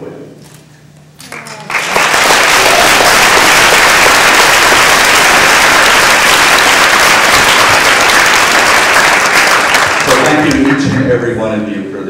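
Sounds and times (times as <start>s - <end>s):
audience applauding: 1.3s - 11.3s.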